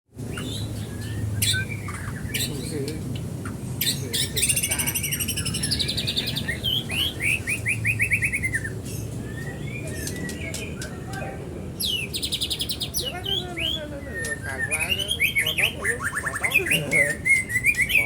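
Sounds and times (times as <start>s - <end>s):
songbird singing varied song: 0.2s - 18.0s.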